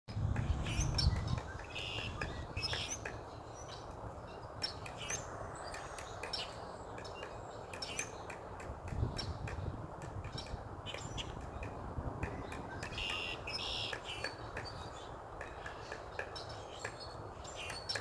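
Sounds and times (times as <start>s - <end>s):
small birds chirping: 0.1s - 18.0s
woodpecker pecking on wood: 0.3s - 3.3s, 4.6s - 18.0s.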